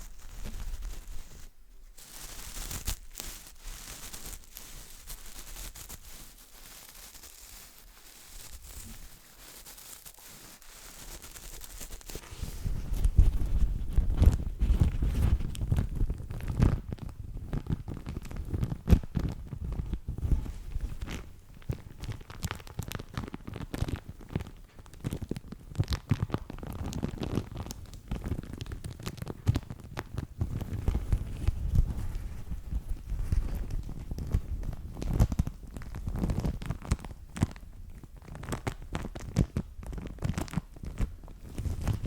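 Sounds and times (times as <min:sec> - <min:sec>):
paper napkin crumpling: 0:00.0 - 0:24.6, 0:25.2 - 0:37.6, 0:38.2 - 0:42.0.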